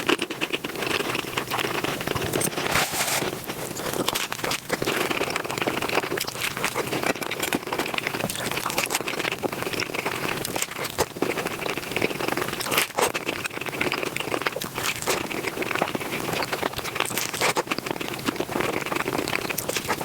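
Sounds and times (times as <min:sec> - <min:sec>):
sped-up chewing and crunching: 0:00.0 - 0:20.0.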